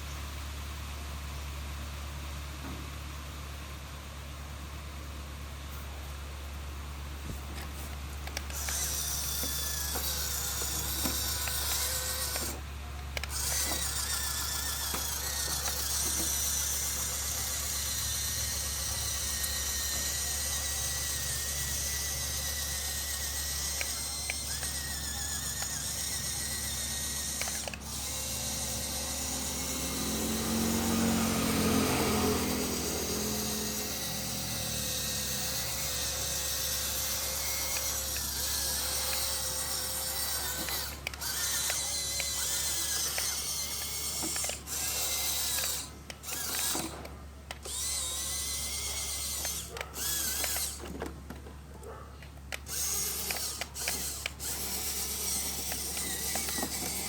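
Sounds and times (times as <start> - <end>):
small motor whining: 7.1 - 57.0.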